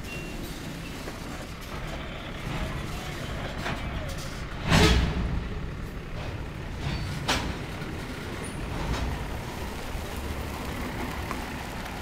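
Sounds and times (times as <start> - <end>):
locomotive engine rumbling: 0.0 - 12.0.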